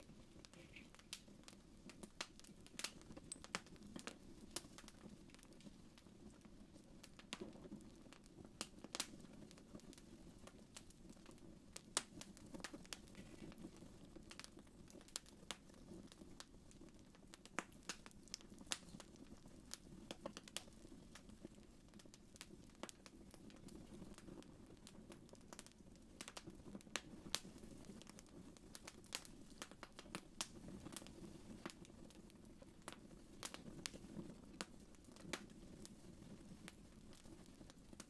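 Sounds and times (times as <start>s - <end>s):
low rush of flames: 0.0s - 38.0s
wood fire crackling and popping: 0.0s - 38.0s.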